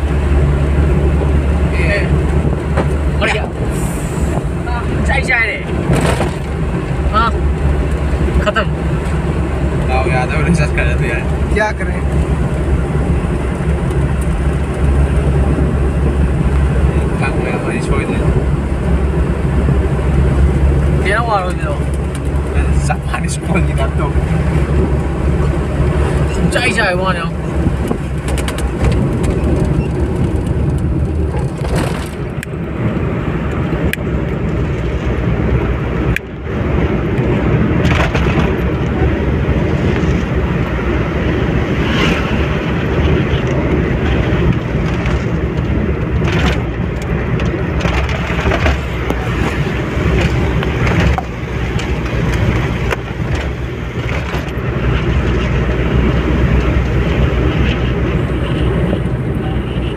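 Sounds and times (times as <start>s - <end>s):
car engine and tyre noise: 0.0s - 59.9s.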